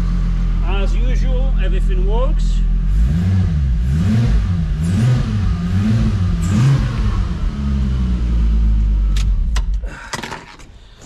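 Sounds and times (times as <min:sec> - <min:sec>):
engine revving and idling: 0:00.0 - 0:09.6.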